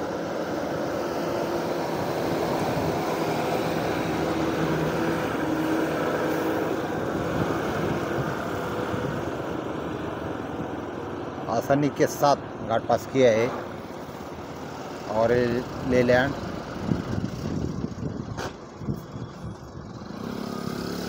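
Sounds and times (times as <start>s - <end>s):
truck diesel engine: 0.0s - 21.0s.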